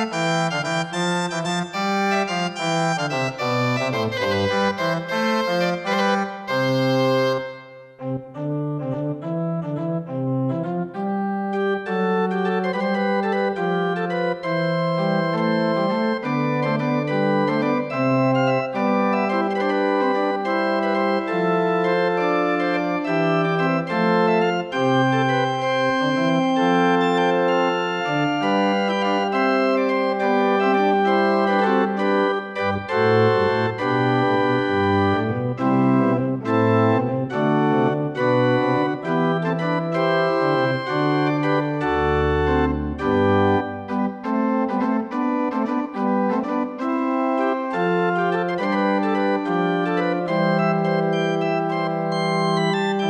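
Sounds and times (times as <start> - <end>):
pipe organ chords: 0.0 - 53.0.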